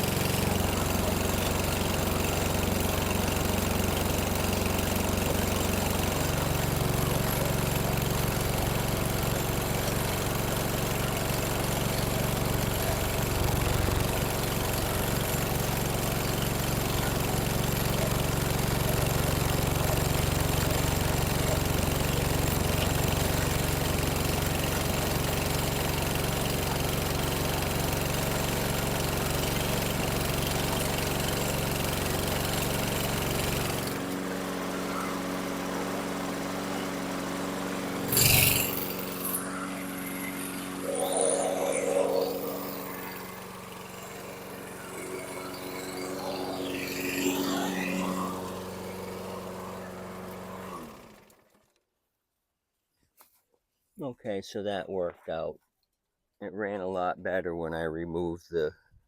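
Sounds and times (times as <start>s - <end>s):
lawn mower engine running: 0.0s - 51.6s.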